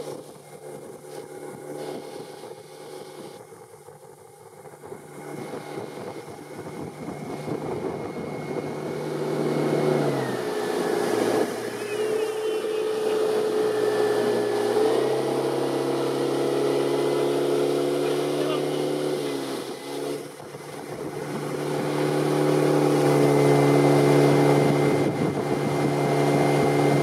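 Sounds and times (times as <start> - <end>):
motorboat engine: 0.0 - 27.0
rushing water and spray: 4.8 - 27.0.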